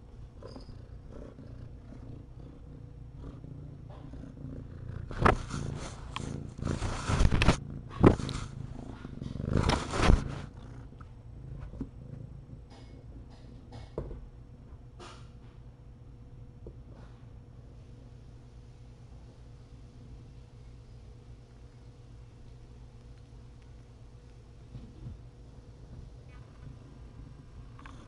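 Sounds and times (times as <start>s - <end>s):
cat purring: 0.0s - 14.0s, 18.0s - 28.0s.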